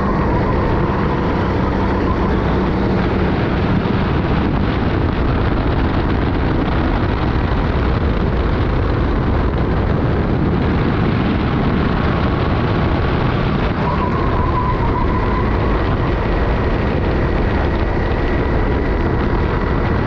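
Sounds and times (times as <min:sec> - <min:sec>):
kart engine running hard: 0:00.0 - 0:20.0
wind noise: 0:00.0 - 0:20.0.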